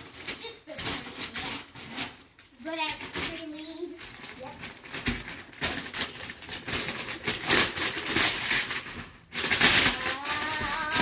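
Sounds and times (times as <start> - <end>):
wrapping paper tearing: 0.0 - 11.0.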